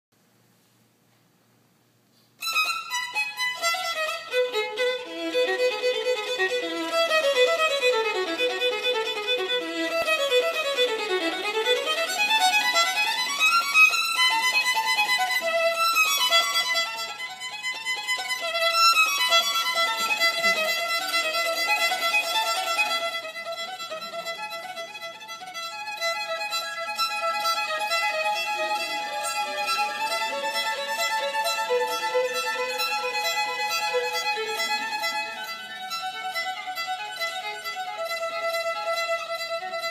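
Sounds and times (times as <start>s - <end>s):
solo violin: 2.4s - 39.9s.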